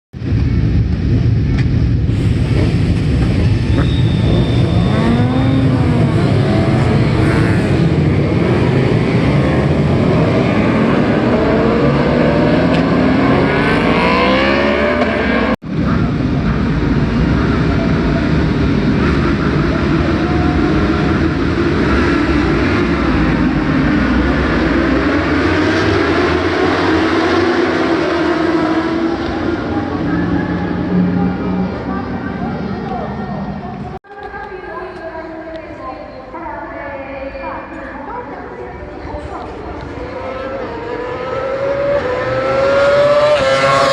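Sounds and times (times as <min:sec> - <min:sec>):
racing motorbikes at full throttle: 0:00.2 - 0:34.0, 0:38.3 - 0:43.9.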